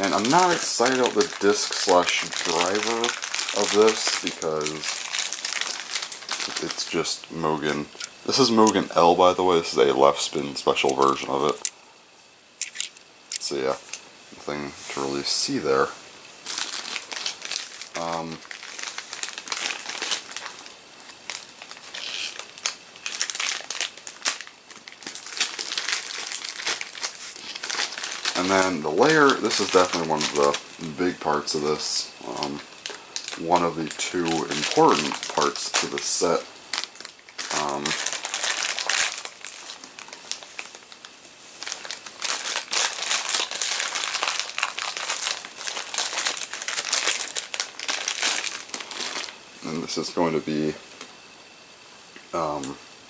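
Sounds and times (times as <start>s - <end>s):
plastic packaging crinkling: 0.0s - 11.8s, 12.6s - 51.1s.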